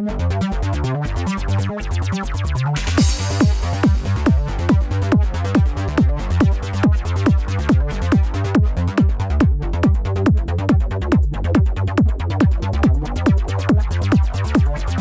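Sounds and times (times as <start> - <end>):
pulsing synth bass line: 0.0 - 15.0
steady kick drum beat: 2.8 - 15.0.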